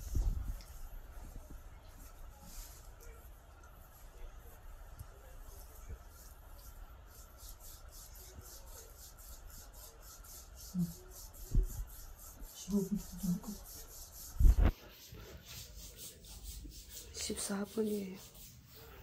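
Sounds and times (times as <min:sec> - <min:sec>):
hands rubbing skin: 0:00.0 - 0:19.0.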